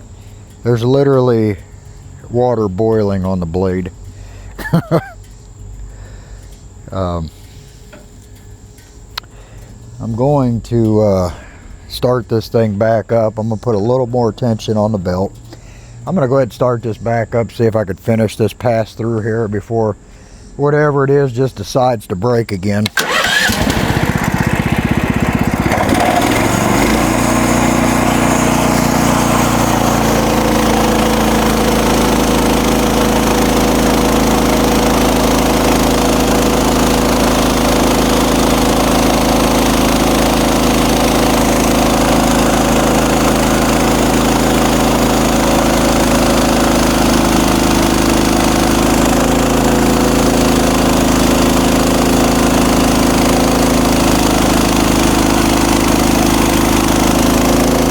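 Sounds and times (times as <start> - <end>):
gasoline engine running: 0.0 - 57.9.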